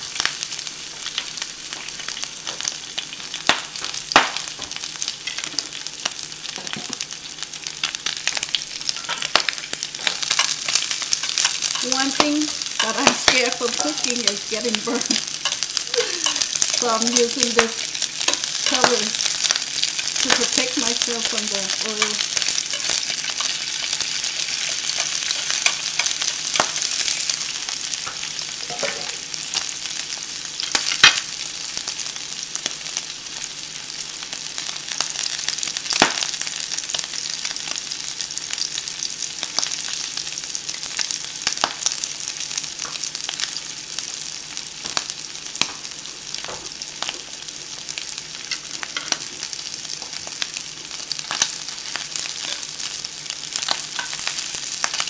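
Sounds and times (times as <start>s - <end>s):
shrimp sizzling in hot oil: 0.0s - 55.0s.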